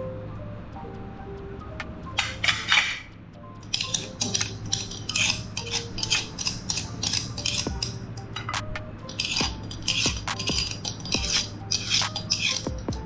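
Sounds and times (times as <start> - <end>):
soft background music: 0.0 - 13.0
meat grinder clinking and scraping: 2.2 - 13.0.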